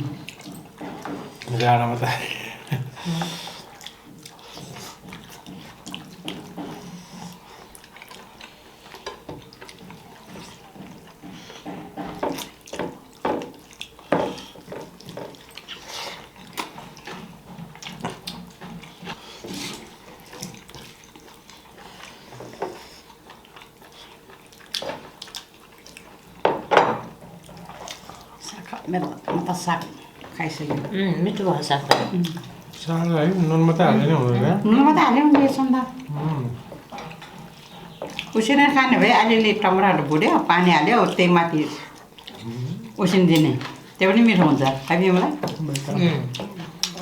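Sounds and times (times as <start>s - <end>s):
wet chewing and smacking: 0.0s - 47.0s.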